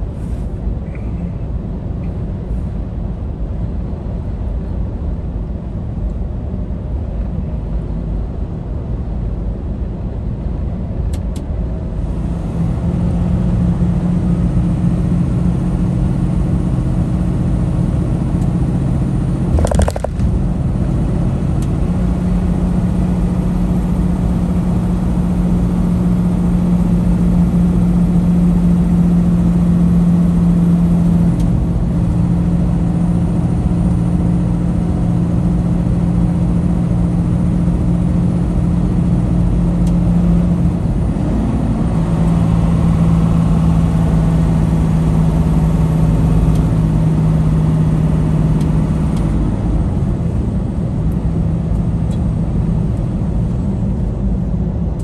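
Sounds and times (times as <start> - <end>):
road rumble: 0.0 - 55.0
truck engine drone: 0.0 - 55.0.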